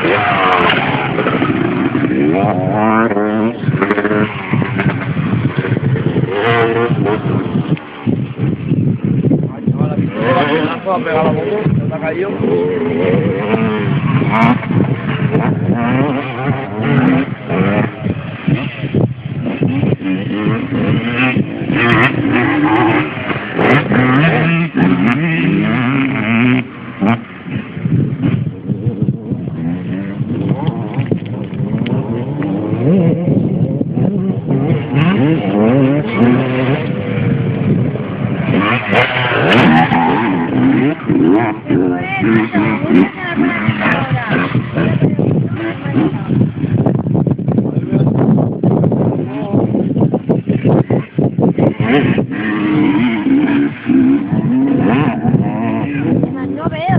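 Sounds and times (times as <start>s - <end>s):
motocross bike engines revving: 0.0s - 56.9s.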